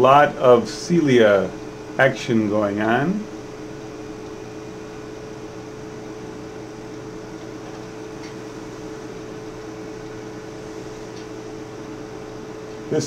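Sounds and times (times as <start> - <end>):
electrical equipment hum and hiss: 0.0 - 13.0.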